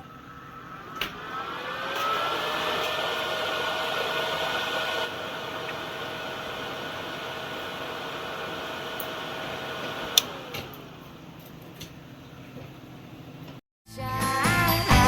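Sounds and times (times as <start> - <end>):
fan motor whining: 0.0 - 13.6.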